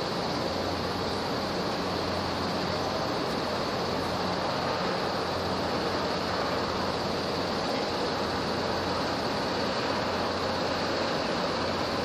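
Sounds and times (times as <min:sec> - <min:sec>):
wind and sea rushing: 0:00.0 - 0:12.0.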